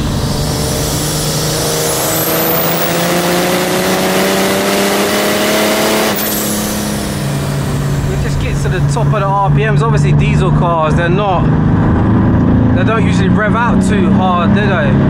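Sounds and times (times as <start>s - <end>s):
diesel engine revving hard: 0.0s - 15.0s.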